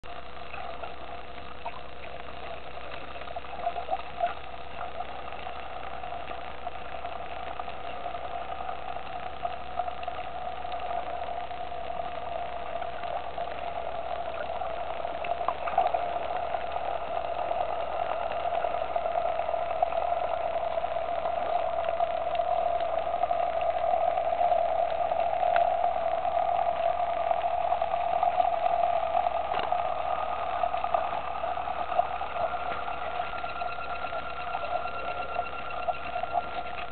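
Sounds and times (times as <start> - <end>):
faint clicks: 0.0 - 36.9
underwater mechanical hum: 0.0 - 36.9.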